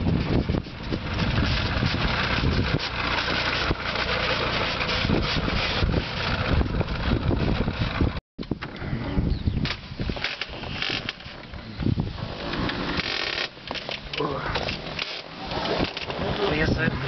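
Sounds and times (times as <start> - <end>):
wind buffeting microphone: 0.0 - 13.1, 14.5 - 17.0
engine running: 0.0 - 17.0.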